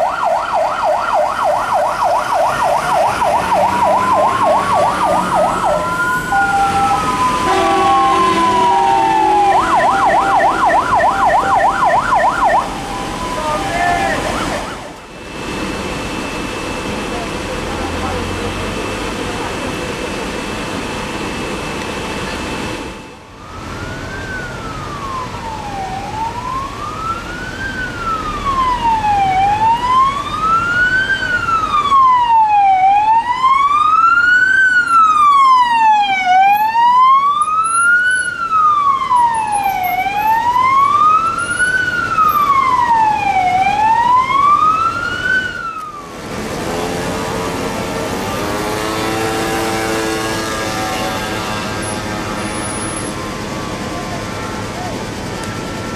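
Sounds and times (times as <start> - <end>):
emergency vehicle siren wailing: 0.0 - 55.9
vehicle noise: 0.0 - 55.9.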